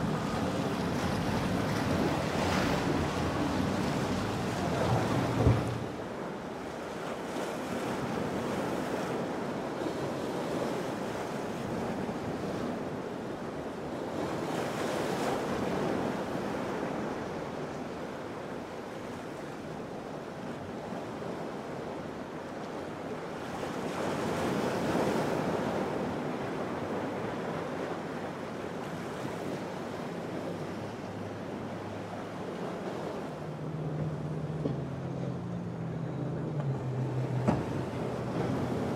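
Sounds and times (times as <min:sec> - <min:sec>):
ocean surf breaking: 0:00.0 - 0:20.0, 0:20.7 - 0:38.9.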